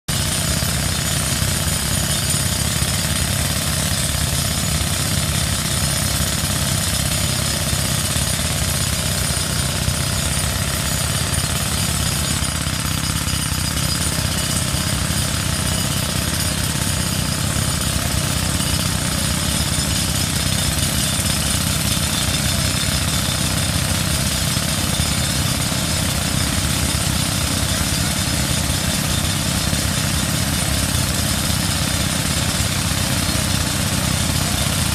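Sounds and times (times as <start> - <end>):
wood chipper running: 0.1 - 34.9.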